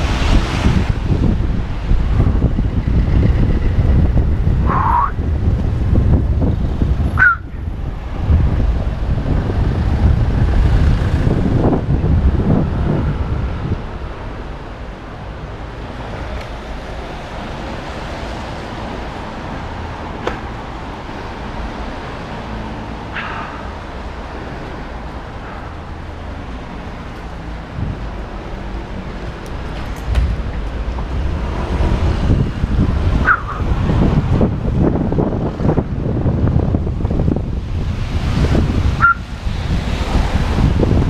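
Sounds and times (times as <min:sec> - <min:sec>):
road noise: 0:00.0 - 0:41.0
wind rushing over microphone: 0:00.0 - 0:41.0.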